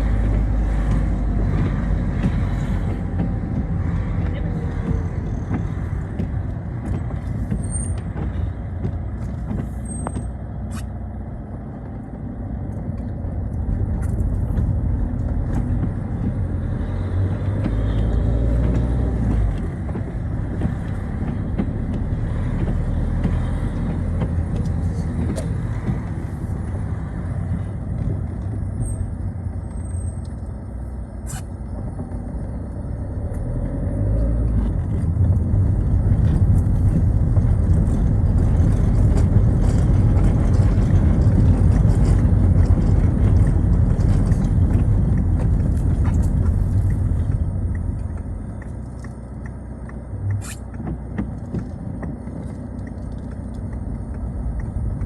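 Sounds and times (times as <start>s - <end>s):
car engine rumble: 0.0s - 55.0s
tyre noise on wet road: 0.0s - 55.0s.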